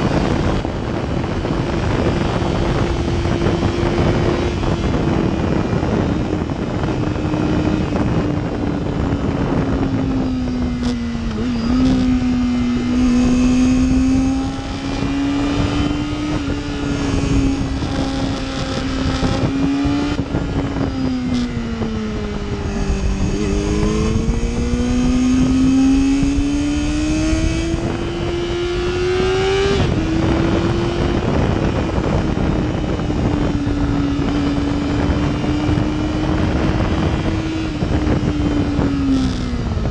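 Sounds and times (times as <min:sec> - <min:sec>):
heavy wind rush: 0:00.0 - 0:39.9
motorcycle engine drone: 0:00.0 - 0:39.9.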